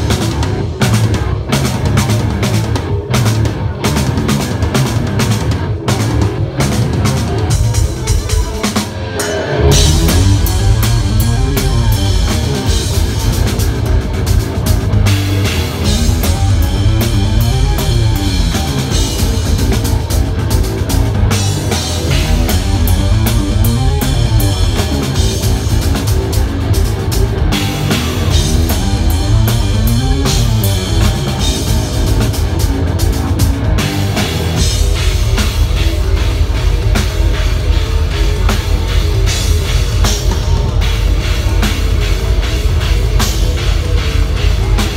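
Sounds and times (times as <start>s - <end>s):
distorted guitar and bass: 0.0s - 44.9s
heavy drum kit: 0.0s - 44.9s
metal band playing live: 0.0s - 44.9s.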